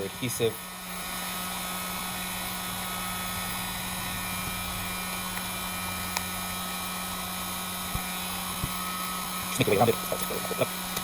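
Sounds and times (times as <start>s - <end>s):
heat gun running: 0.0s - 11.0s.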